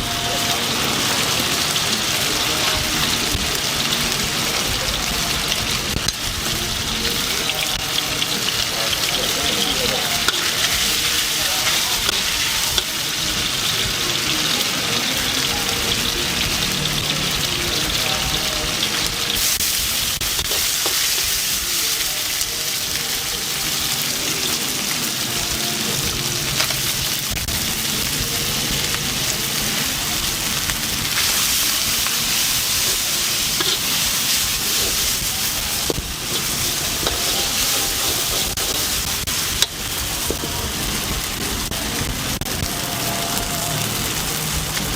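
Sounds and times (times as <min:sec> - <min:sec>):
food sizzling in a wok: 0:00.0 - 0:44.9.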